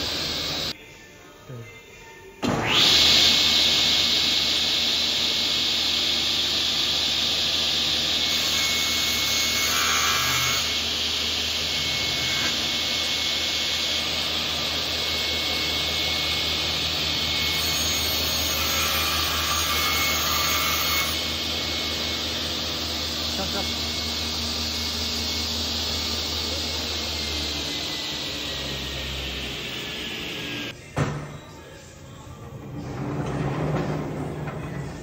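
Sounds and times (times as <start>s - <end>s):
table saw cutting boards: 2.4s - 30.7s.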